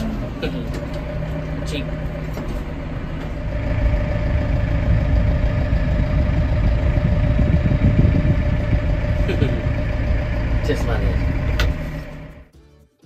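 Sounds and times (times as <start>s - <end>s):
tractor engine running: 0.0s - 12.5s
steady tone: 1.0s - 12.5s.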